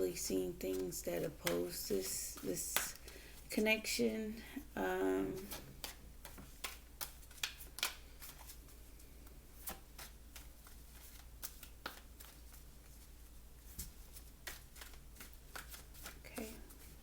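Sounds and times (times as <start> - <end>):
cards being shuffled: 0.6 - 3.5, 5.3 - 17.0.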